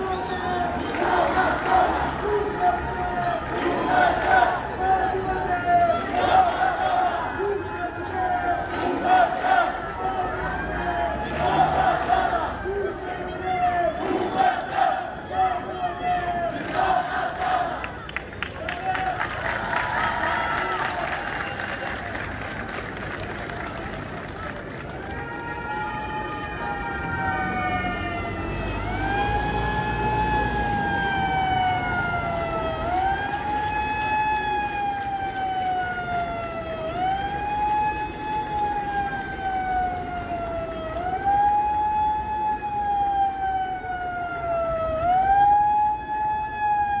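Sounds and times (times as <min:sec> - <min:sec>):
emergency siren wailing: 0:00.0 - 0:47.0.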